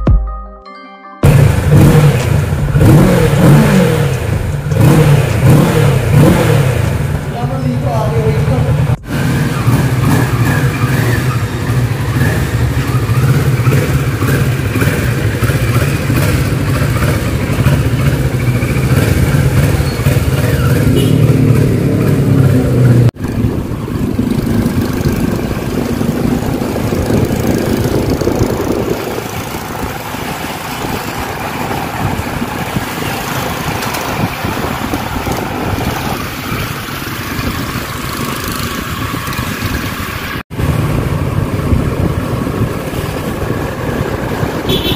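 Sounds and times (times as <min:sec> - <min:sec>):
motorcycle engine running: 0:01.2 - 0:44.9.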